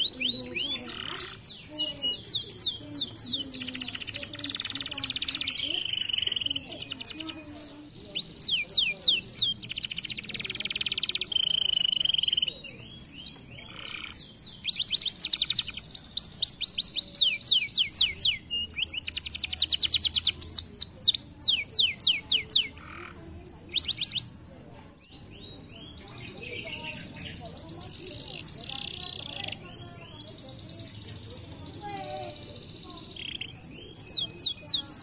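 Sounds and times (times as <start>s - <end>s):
canary singing: 0.0s - 35.0s.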